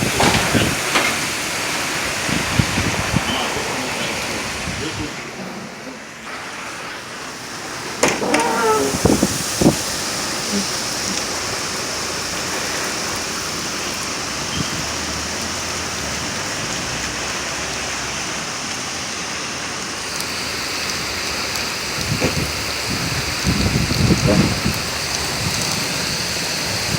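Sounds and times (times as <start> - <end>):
heavy rain pouring: 0.0 - 26.9.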